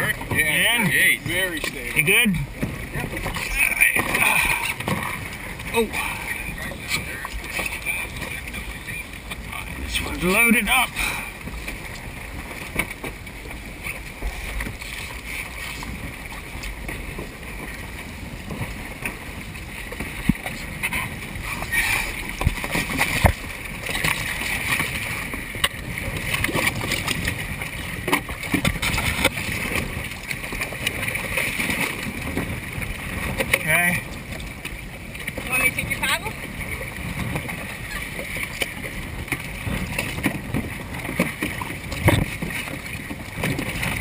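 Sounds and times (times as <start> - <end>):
water sloshing against boat: 0.0 - 44.0
wind rumbling on microphone: 0.0 - 44.0.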